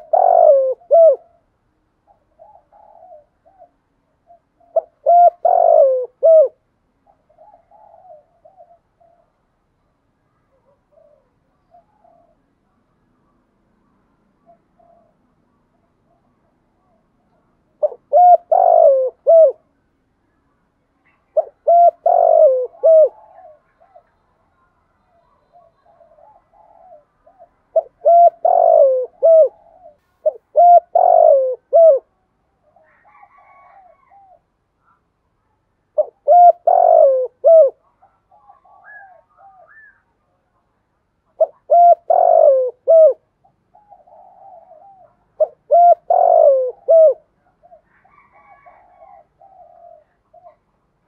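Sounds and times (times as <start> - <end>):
dove cooing: 0.0 - 9.6, 10.4 - 12.7, 14.4 - 19.7, 21.0 - 24.2, 25.1 - 35.0, 35.9 - 40.4, 41.3 - 50.8.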